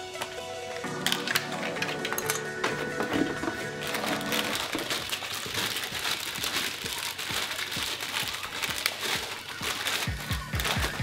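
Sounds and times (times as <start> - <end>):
plastic bag crinkling: 0.1 - 11.0
cardboard box rustling: 1.7 - 11.0.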